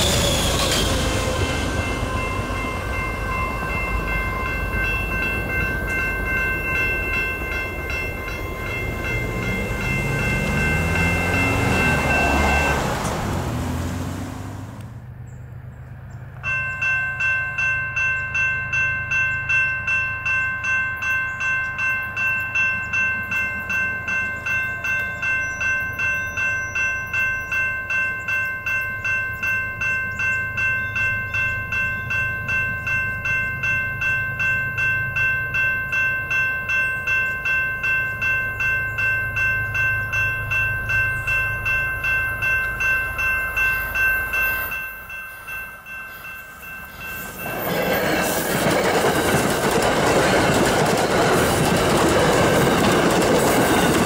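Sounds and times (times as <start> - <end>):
crossing warning bell ringing: 0.0 - 54.0.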